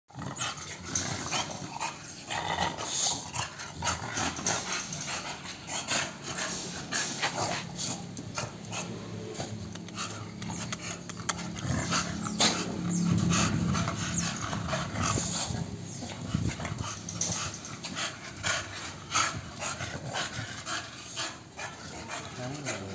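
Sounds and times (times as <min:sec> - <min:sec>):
dogs panting: 0:00.1 - 0:22.9.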